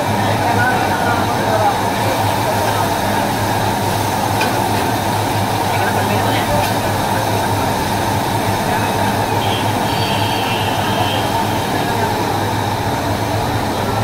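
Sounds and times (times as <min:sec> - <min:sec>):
gas burners rushing: 0:00.0 - 0:14.0.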